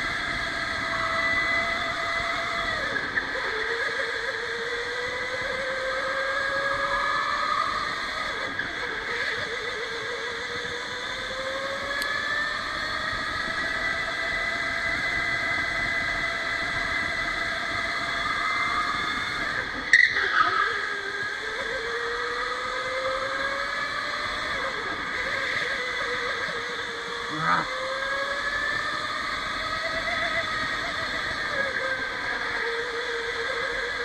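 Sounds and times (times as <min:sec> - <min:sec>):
electric motor whining: 0:00.0 - 0:34.0.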